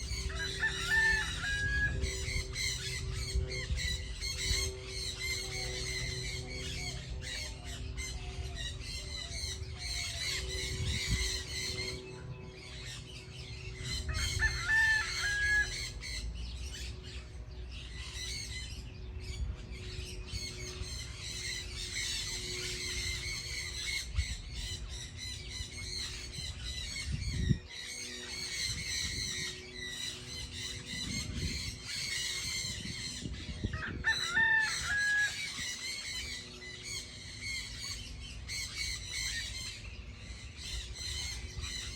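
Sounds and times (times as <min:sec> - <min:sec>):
chorus of small birds chirping: 0:00.0 - 0:41.9.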